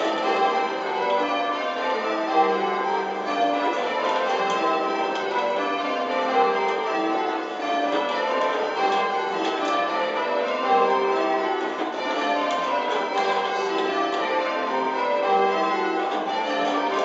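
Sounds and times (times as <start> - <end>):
church bells change ringing: 0.0 - 17.0.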